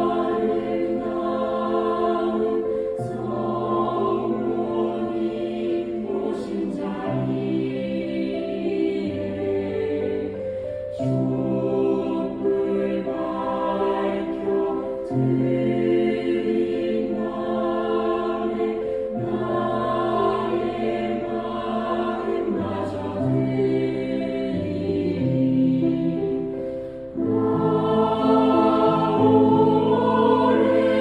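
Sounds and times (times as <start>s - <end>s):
choir singing a hymn: 0.0s - 31.0s.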